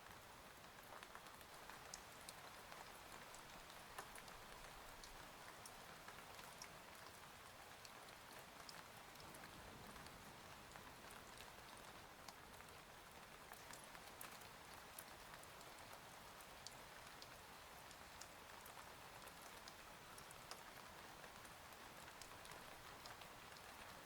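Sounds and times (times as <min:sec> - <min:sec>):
soft rain hiss: 0:00.0 - 0:24.0.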